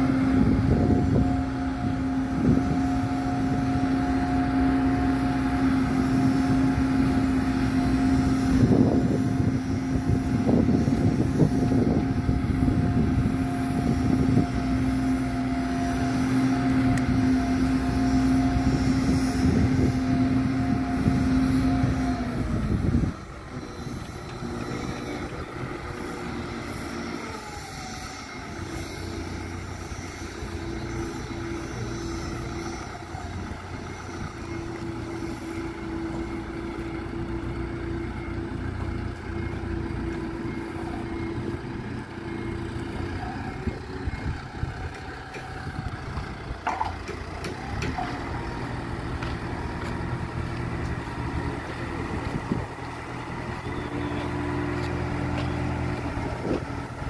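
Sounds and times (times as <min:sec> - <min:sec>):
motor humming: 0:00.0 - 0:57.0
quieter engine running: 0:00.0 - 0:57.0.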